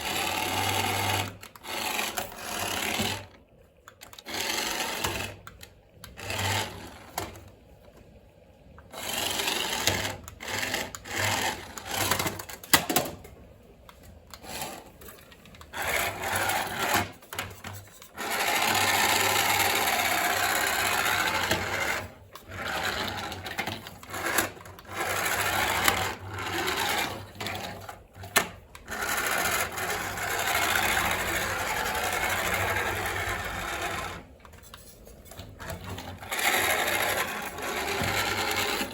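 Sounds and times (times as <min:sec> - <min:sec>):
toy car motor whirring: 0:00.0 - 0:03.3, 0:04.0 - 0:07.3, 0:08.9 - 0:12.6, 0:14.3 - 0:38.9.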